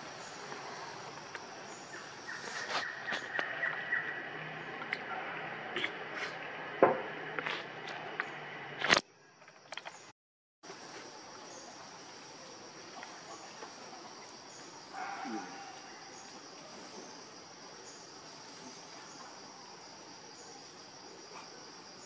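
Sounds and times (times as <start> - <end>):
high insect call: 0.0 - 22.0.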